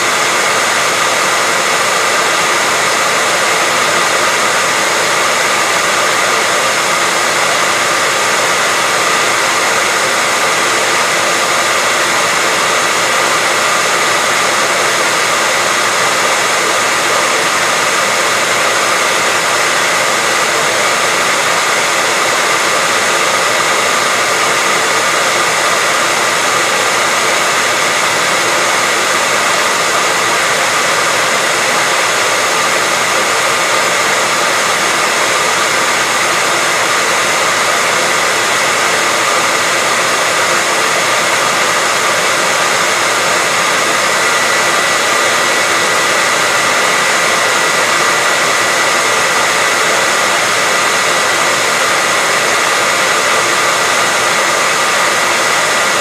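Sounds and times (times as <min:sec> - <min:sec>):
hair dryer whooshing with whine: 0:00.0 - 0:56.0.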